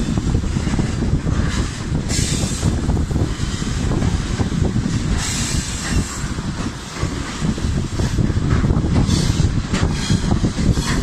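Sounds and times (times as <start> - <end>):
train wagons rumbling past: 0.0 - 11.0.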